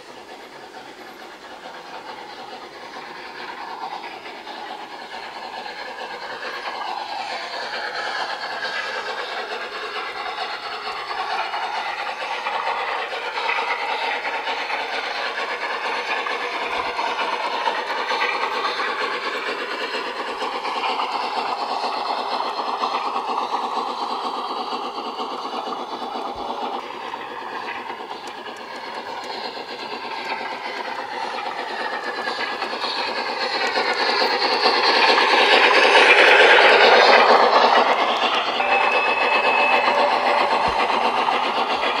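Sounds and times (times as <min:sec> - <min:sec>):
model train wheels rattling: 0:00.0 - 0:42.0
steam hiss: 0:00.0 - 0:42.0.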